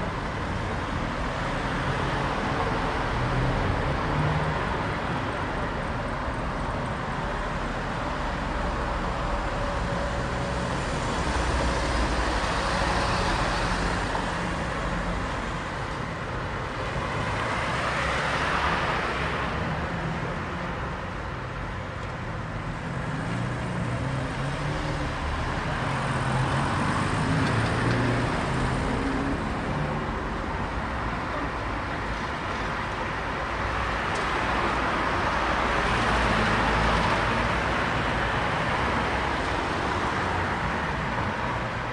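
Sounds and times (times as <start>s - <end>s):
vehicles driving past: 0.0s - 41.9s.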